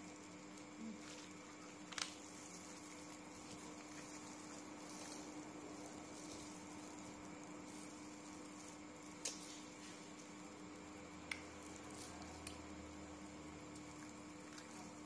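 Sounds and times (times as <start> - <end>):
steady low hum: 0.0 - 15.0
gloved hands peeling shrimp: 0.2 - 15.0.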